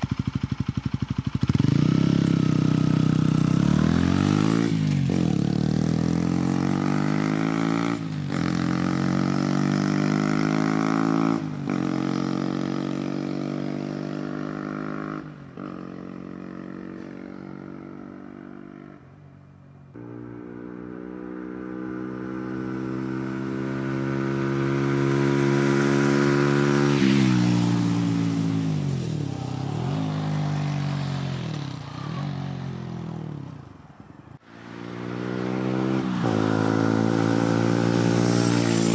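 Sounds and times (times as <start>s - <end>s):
motorcycle engine accelerating: 0.0s - 19.1s, 19.9s - 33.8s, 34.4s - 38.9s.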